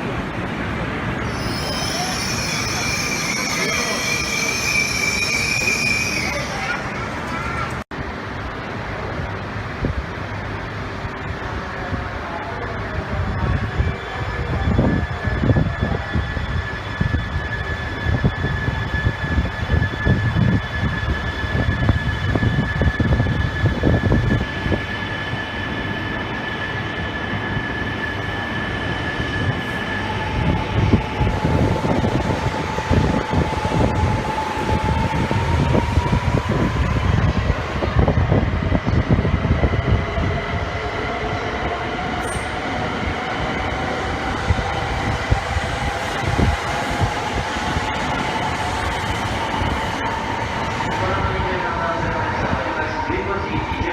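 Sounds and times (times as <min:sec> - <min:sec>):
train whine: 0:00.0 - 0:53.9.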